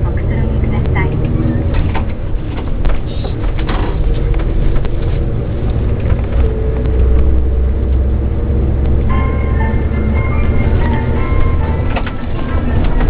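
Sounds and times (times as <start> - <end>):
coach engine and road drone: 0.0 - 13.0.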